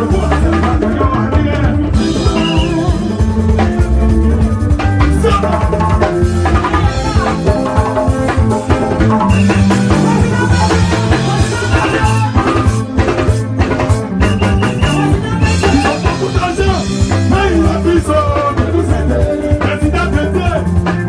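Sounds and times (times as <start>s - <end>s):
drum kit beating: 0.0s - 21.0s
live band music: 0.0s - 21.0s.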